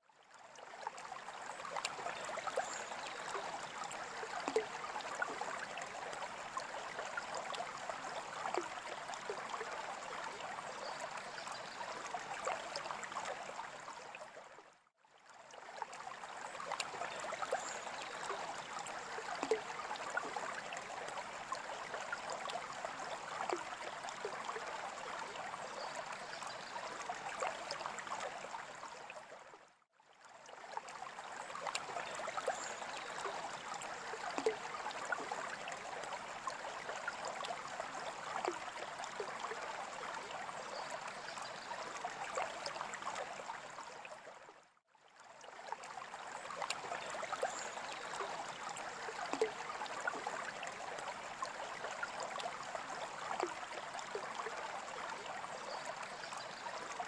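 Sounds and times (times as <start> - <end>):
trickling water with splashes: 0.0 - 57.0.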